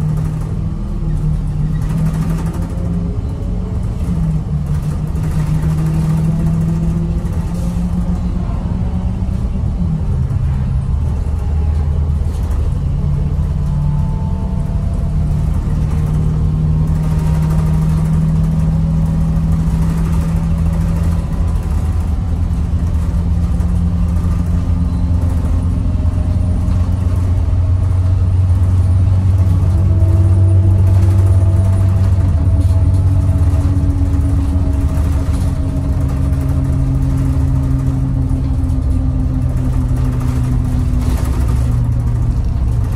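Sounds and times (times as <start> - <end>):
bus engine drone from inside: 0.0 - 42.9.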